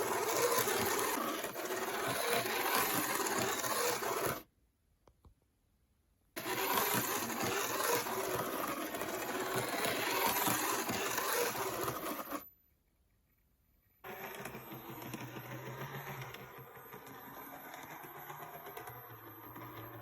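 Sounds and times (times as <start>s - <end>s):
model train motor whirring: 0.0s - 4.5s, 6.4s - 12.5s, 14.0s - 20.0s.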